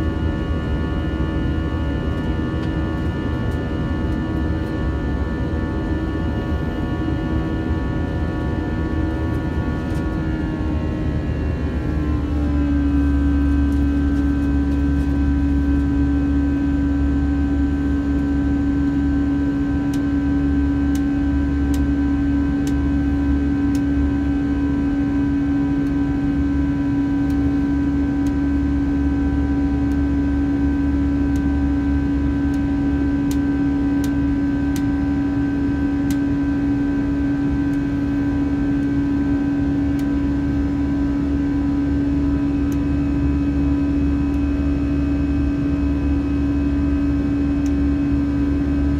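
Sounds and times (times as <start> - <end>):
jet engines droning: 0.0 - 48.9.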